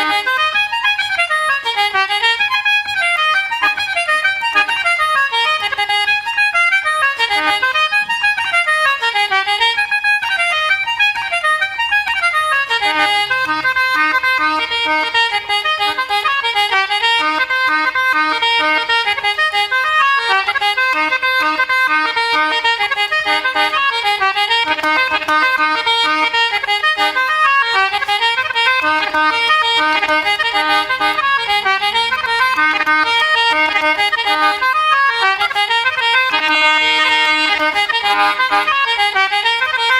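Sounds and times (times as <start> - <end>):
button accordion: 0.0 - 39.9
concertina: 0.0 - 39.9.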